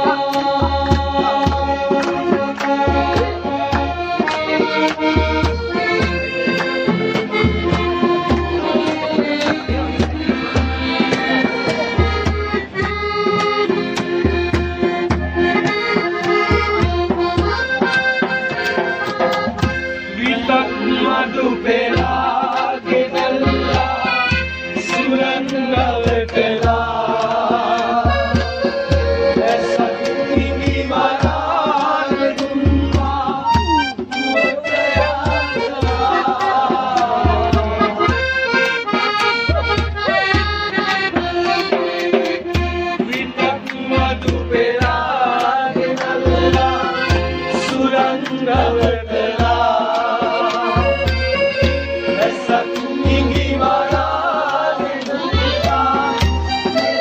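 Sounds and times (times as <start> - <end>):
steady low beat: 0.0 - 57.0
instrumental melody of held notes: 1.0 - 57.0.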